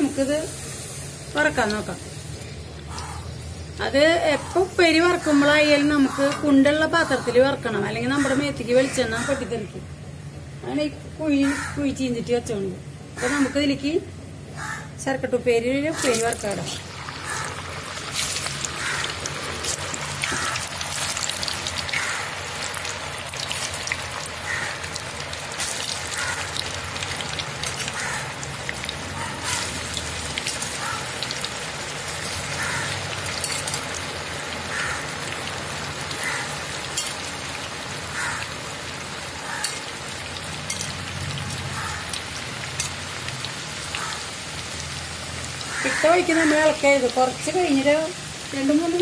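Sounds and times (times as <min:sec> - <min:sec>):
oil sizzling and crackling: 0:00.0 - 0:09.6, 0:15.8 - 0:49.0.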